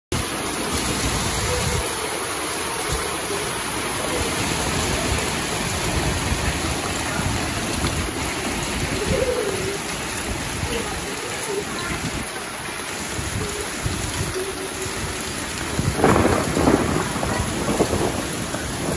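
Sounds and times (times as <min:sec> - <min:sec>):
heavy rain and hail on roofs: 0:00.1 - 0:18.9.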